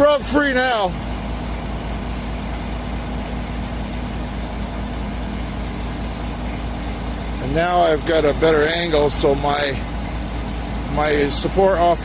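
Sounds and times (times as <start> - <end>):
truck diesel engine humming: 0.0 - 12.0.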